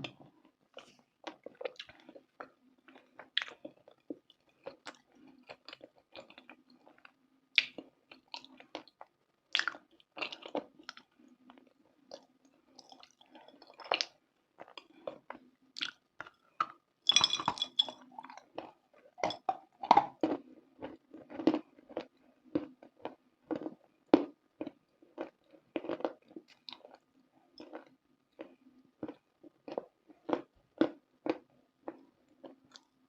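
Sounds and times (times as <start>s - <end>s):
person chewing crunchy food: 0.8s - 32.9s.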